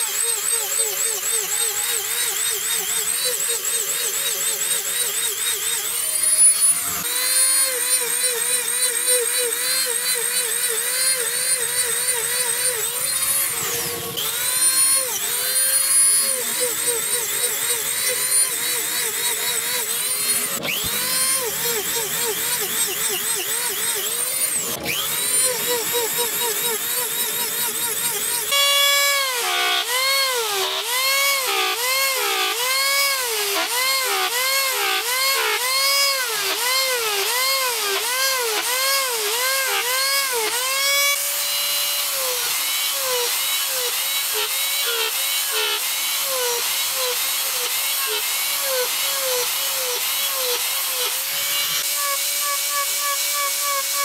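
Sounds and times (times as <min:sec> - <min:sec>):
rotary tool whining: 0:00.0 - 0:54.0.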